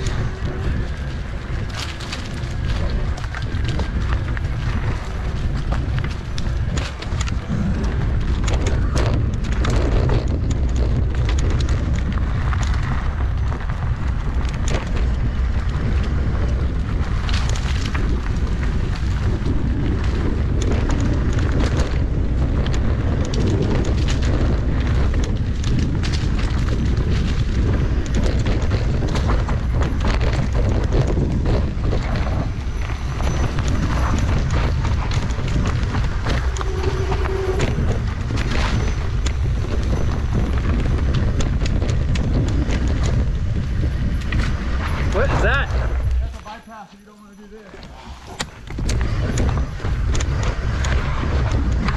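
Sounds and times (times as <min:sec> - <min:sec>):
wind rumble on microphone: 0:00.0 - 0:46.8, 0:47.6 - 0:51.9
bike rattling clicks and knocks: 0:00.0 - 0:51.9
bike tyre noise: 0:00.0 - 0:51.9.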